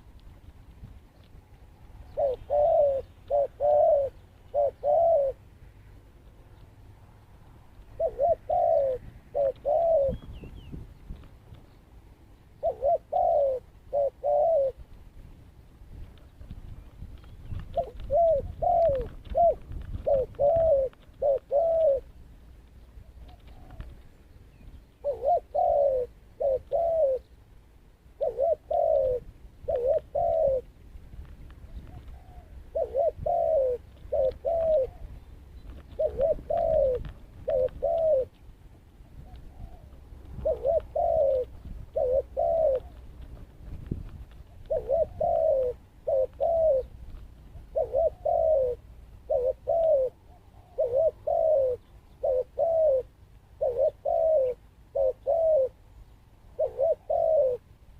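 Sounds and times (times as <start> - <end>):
dove cooing: 1.6 - 6.4, 7.7 - 10.8, 12.5 - 14.9, 17.4 - 22.2, 23.0 - 27.4, 28.1 - 30.8, 31.6 - 38.4, 39.0 - 57.9.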